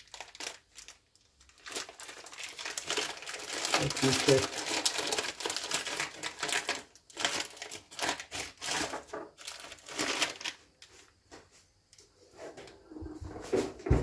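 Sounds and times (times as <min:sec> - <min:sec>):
plastic rustling: 0:00.0 - 0:11.5.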